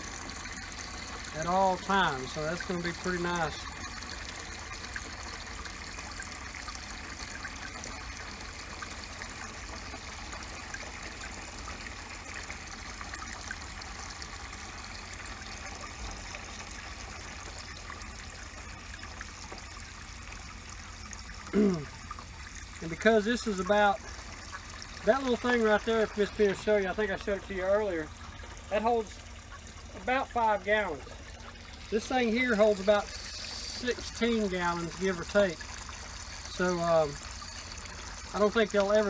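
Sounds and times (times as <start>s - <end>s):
hose water splashing into barrel: 0.0s - 39.0s.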